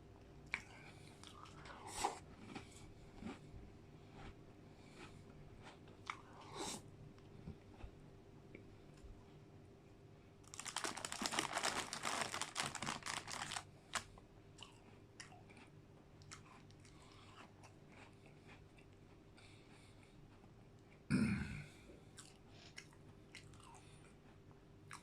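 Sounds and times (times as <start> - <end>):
chewing crunchy biscuit: 0.2 - 8.0, 10.4 - 21.1, 22.0 - 25.0.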